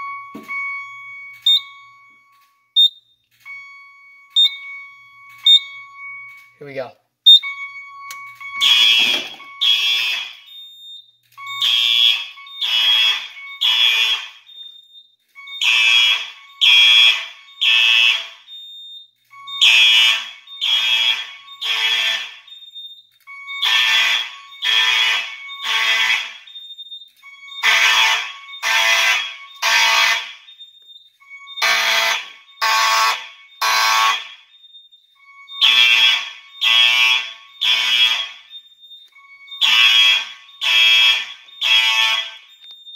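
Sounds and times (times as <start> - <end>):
fire alarm horn blasts: 0.0 - 42.9.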